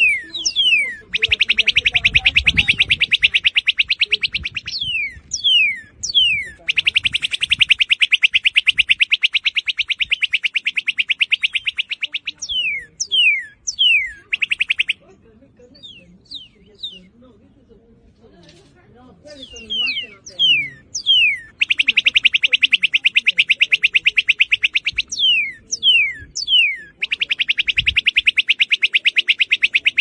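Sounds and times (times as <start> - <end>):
bird whistles and trills: 0.0 - 15.1, 15.7 - 17.2, 19.3 - 30.0.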